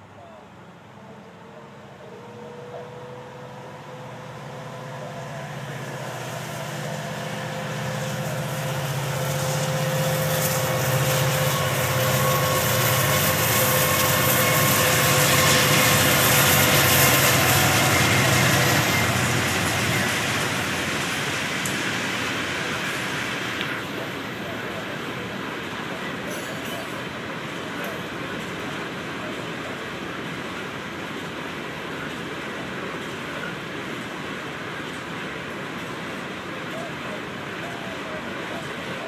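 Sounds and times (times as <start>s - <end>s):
diesel locomotive engines working: 0.0s - 39.0s
hopper cars rumbling on rails: 0.0s - 39.0s.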